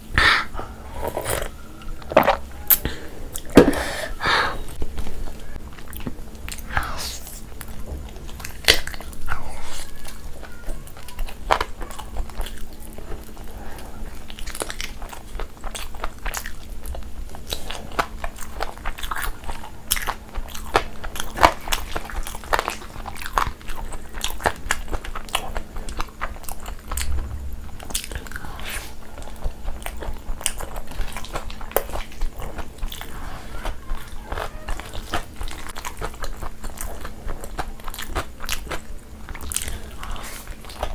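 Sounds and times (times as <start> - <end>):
faint steady hum: 0.0 - 40.9
crunching food: 4.7 - 40.9
biting and chewing chicken: 4.8 - 40.9.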